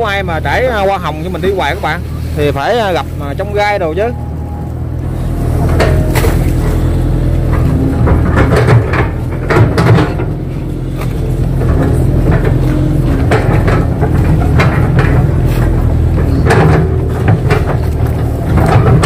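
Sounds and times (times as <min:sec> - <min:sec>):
excavator diesel engine running: 0:00.0 - 0:19.0
excavator boom and bucket clanking: 0:03.4 - 0:19.0.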